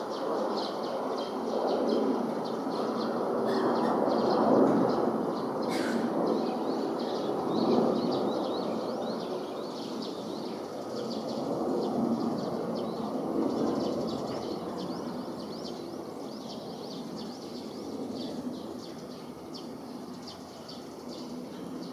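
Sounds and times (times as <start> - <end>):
distant jet engines rushing: 0.0 - 21.9
small birds chirping: 0.2 - 21.9.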